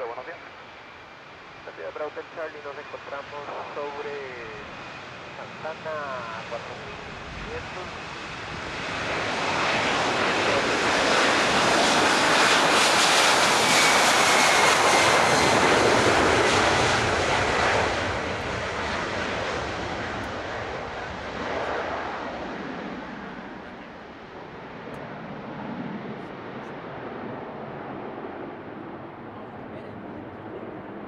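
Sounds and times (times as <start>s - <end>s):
jet engines roaring at takeoff: 0.0s - 31.0s.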